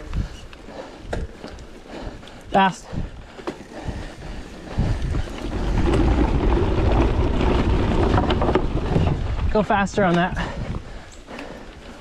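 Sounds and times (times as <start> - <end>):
wind buffeting microphone: 0.0 - 11.8
bike tyres rumbling on dirt: 0.0 - 12.0.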